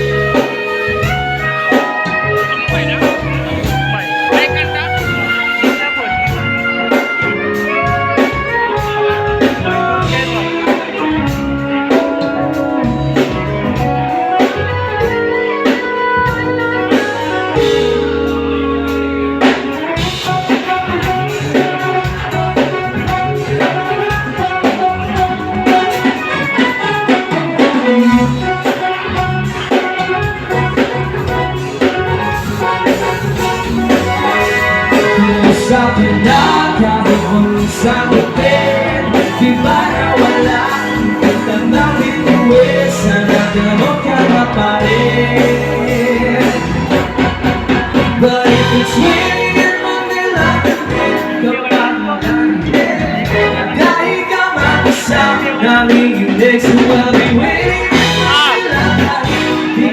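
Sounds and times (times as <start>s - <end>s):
band playing pop music: 0.0s - 59.9s
drums beat: 0.0s - 59.9s.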